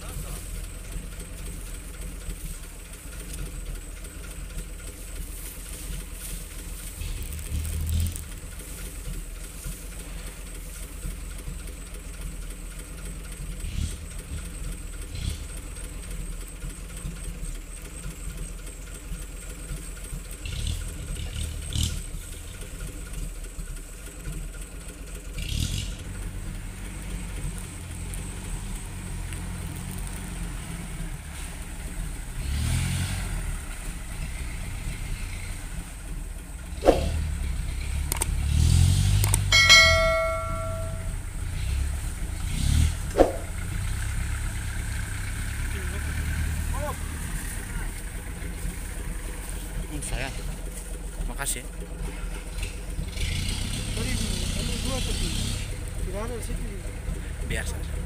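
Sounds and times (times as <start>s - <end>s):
pickup engine at low revs: 0.0s - 58.0s.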